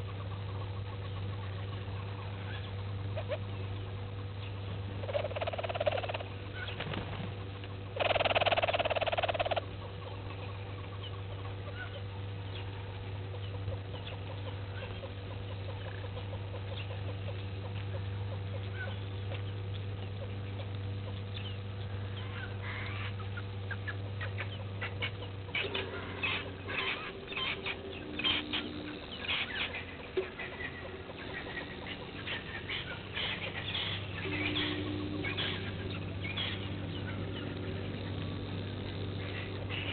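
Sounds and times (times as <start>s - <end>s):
birds chirping: 0.0s - 39.9s
steady low hum: 0.0s - 39.9s.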